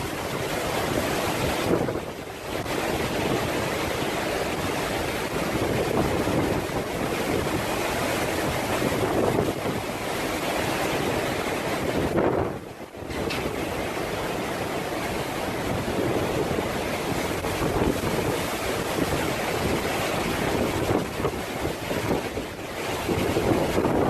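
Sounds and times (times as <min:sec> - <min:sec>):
waves washing in: 0:00.0 - 0:24.0
wind rushing across microphone: 0:00.0 - 0:24.0.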